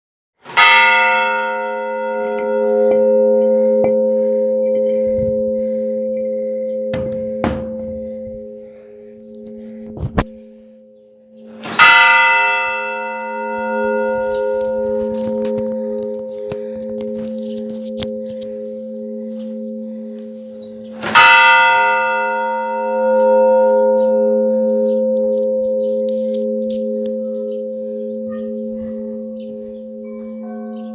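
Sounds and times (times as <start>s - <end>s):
church bell ringing: 0.5s - 30.9s
pulsing hum of bells: 0.6s - 30.9s.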